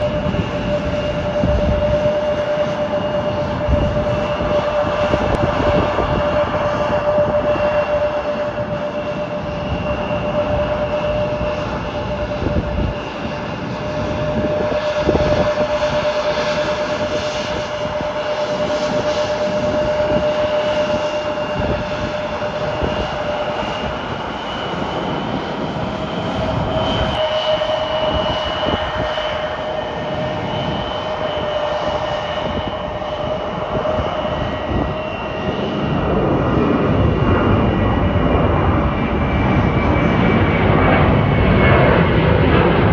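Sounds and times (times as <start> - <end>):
jet engine whining tones: 0.0 - 42.9
jet engines roaring: 0.0 - 42.9.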